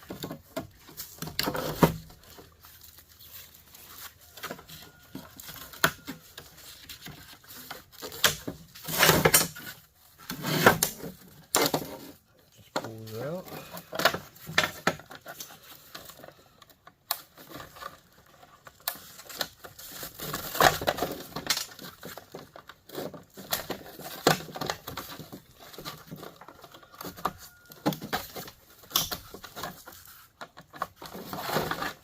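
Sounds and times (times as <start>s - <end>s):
tools and parts clattering: 0.0s - 12.2s, 12.8s - 32.0s.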